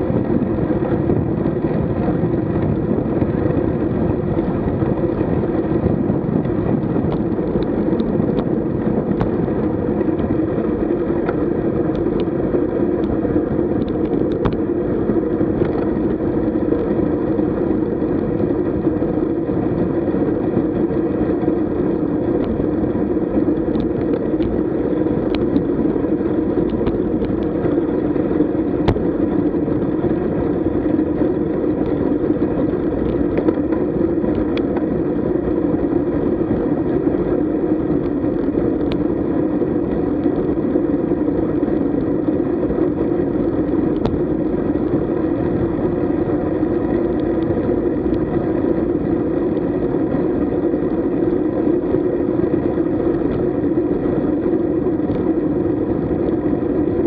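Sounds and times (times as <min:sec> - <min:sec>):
wind and road noise rumble: 0:00.0 - 0:57.0.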